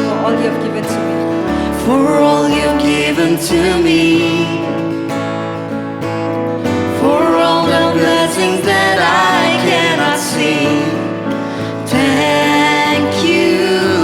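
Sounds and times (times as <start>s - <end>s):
person singing: 0.0s - 5.3s, 6.7s - 14.0s
worship music with guitar: 0.0s - 14.0s.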